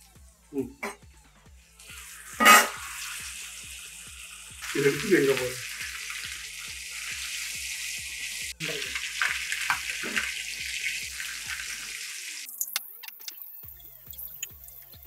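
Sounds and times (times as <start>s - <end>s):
fish sizzling in hot oil: 1.8s - 15.0s.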